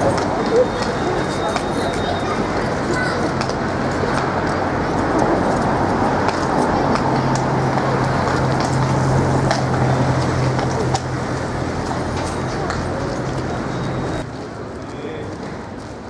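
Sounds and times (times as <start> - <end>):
vehicle engine humming: 0.0 - 14.9
street traffic din: 0.0 - 16.0.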